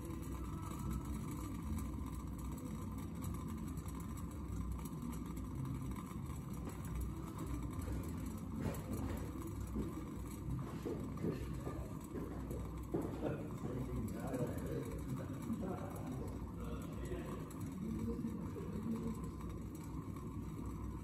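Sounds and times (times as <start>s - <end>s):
coffee maker bubbling: 0.0s - 21.0s.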